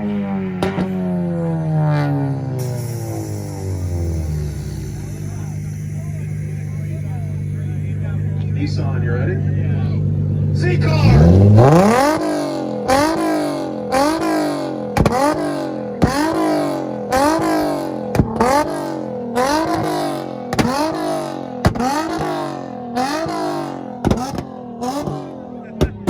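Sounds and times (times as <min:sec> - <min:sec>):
car engine revving: 0:00.0 - 0:26.0
exhaust cracking: 0:00.0 - 0:26.0.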